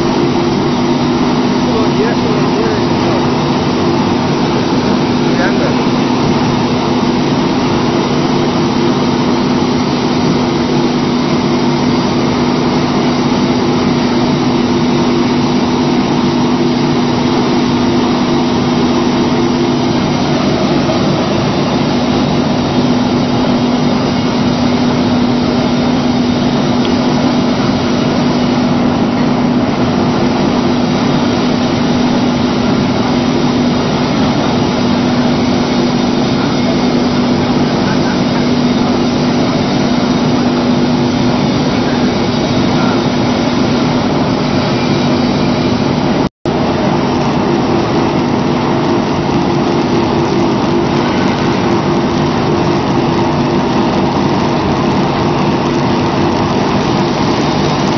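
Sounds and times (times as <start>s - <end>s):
machine mechanical drone: 0.0s - 57.9s.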